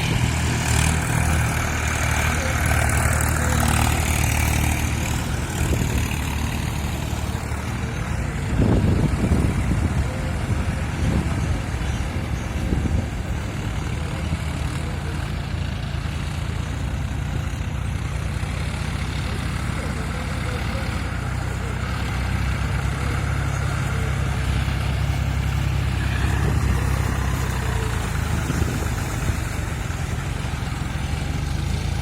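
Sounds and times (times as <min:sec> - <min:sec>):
tractor engine droning: 0:00.0 - 0:32.0.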